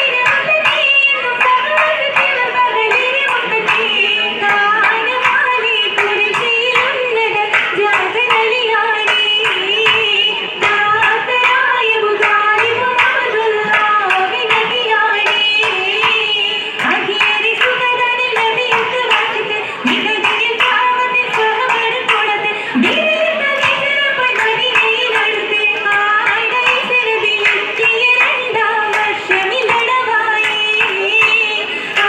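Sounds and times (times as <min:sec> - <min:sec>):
person singing wavering melody: 0:00.0 - 0:32.0
rhythmic handclapping: 0:00.0 - 0:32.0.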